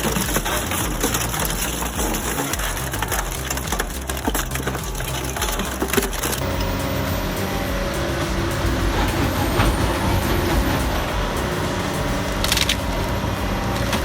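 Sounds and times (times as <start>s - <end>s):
industrial shredding machine running: 0.0s - 14.0s.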